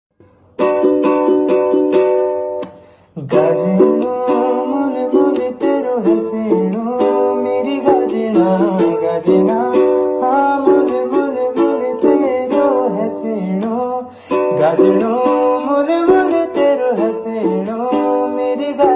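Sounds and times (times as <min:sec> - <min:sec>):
strummed plucked strings: 0:00.2 - 0:18.9.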